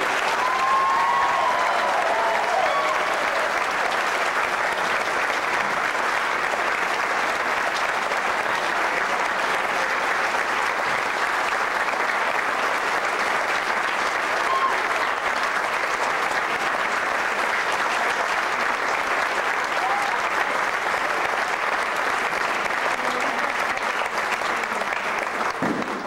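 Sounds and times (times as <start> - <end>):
audience applause: 0.0 - 26.0.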